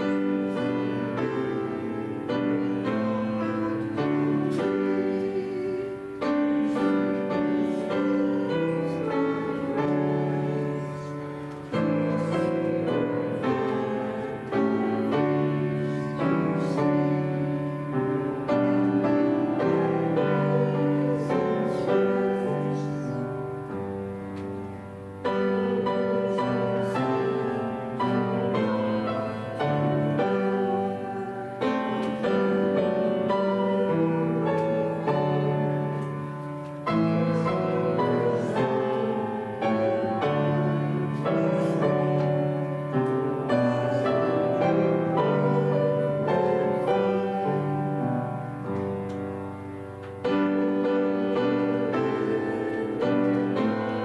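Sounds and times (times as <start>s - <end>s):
piano playing a slow hymn: 0.0s - 54.0s.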